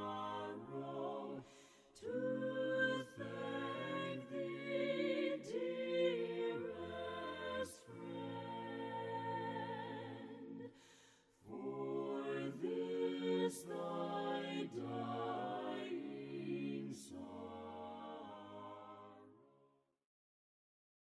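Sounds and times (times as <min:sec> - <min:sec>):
choir singing a slow hymn: 0:00.0 - 0:19.4.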